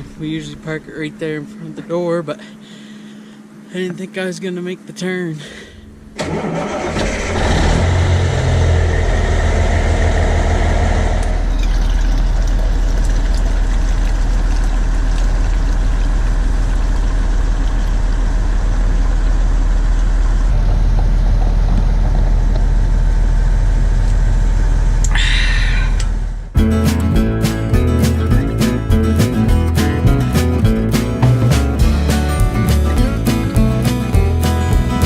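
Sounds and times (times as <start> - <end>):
truck engine droning: 4.8 - 35.0.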